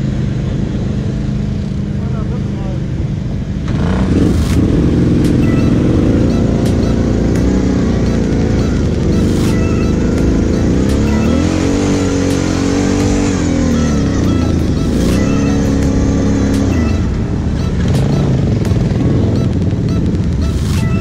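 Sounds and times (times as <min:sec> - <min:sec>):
engine revving: 0:00.0 - 0:21.0.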